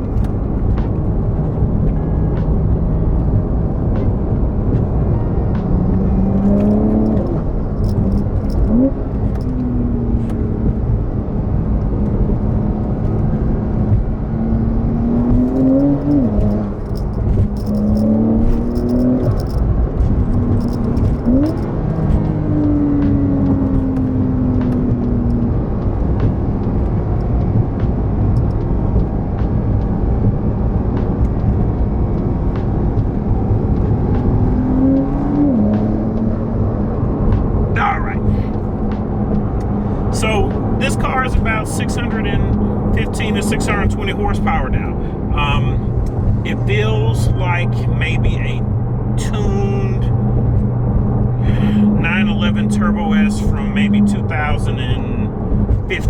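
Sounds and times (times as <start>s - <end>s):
sports car engine accelerating: 0.0s - 56.0s.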